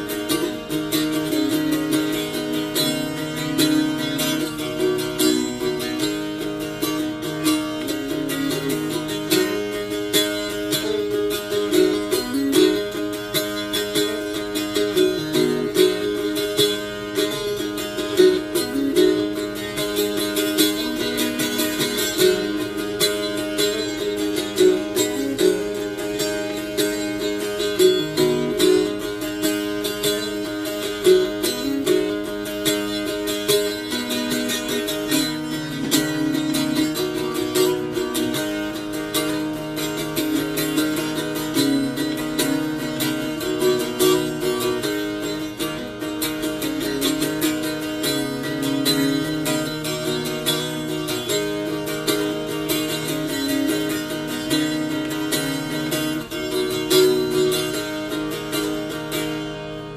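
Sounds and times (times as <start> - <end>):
bouzouki picked and strummed: 0.0 - 59.9.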